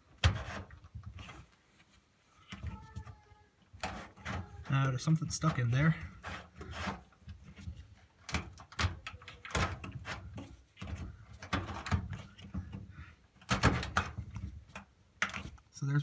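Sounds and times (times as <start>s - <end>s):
plastic filter plug clicking and scraping: 0.2s - 1.5s, 3.8s - 15.6s.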